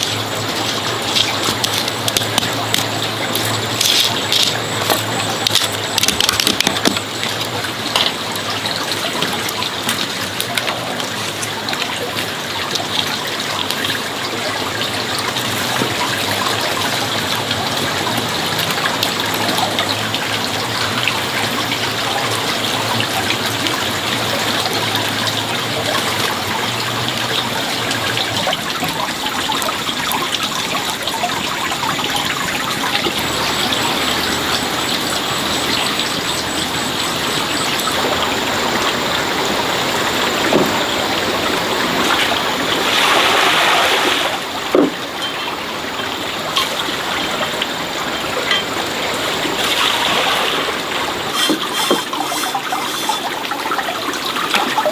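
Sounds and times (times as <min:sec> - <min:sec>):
water running and trickling: 0:00.0 - 0:54.9.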